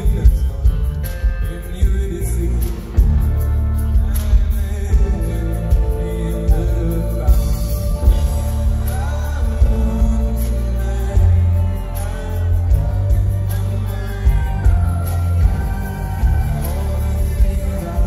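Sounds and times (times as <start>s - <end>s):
live band music: 0.0s - 18.0s
man singing: 0.0s - 18.0s.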